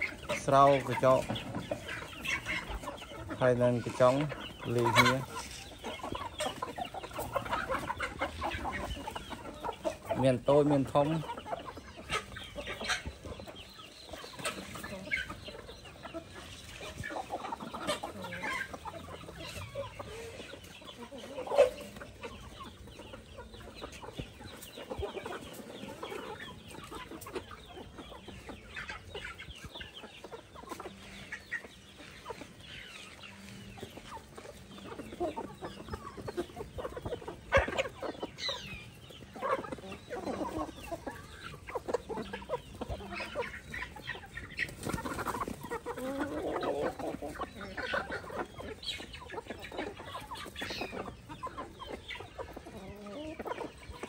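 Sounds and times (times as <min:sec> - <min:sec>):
chickens clucking and calling: 0:00.0 - 0:54.0.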